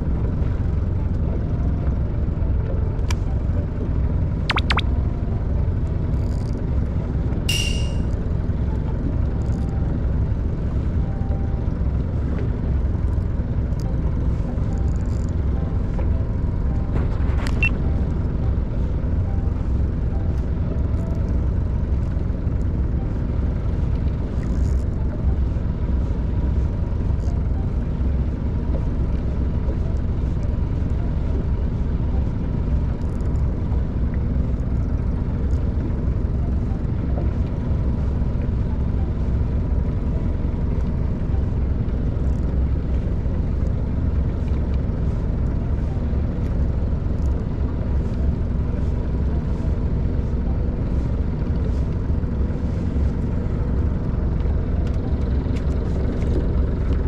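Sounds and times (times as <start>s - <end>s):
boat engine rumbling: 0.0s - 57.0s
faint steady hum: 0.0s - 57.0s.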